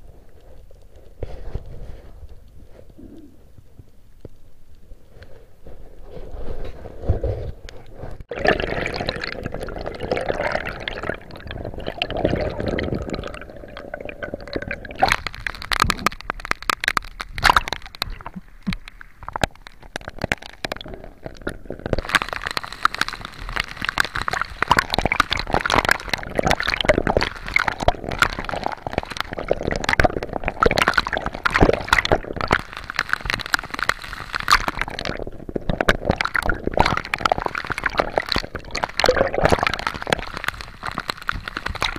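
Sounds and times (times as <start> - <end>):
water gurgling and sloshing: 6.1 - 41.9
dense sharp crackling: 8.1 - 41.9.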